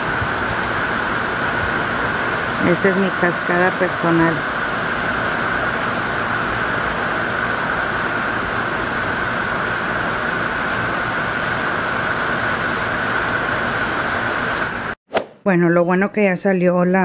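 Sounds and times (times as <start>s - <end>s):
steady rain: 0.0s - 15.0s
water pouring off roof splashing: 0.0s - 15.0s.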